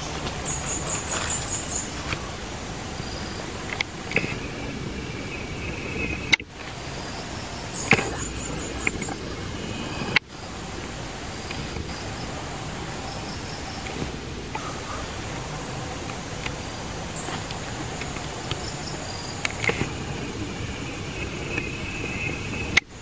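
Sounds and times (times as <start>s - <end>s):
high chirps: 0.0s - 20.1s
forest ambience hiss: 0.0s - 23.0s.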